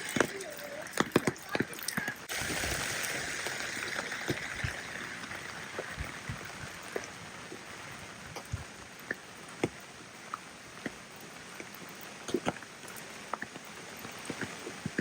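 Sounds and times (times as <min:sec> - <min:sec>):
rain hiss: 0:00.0 - 0:15.0
raindrops striking nearby: 0:00.0 - 0:15.0.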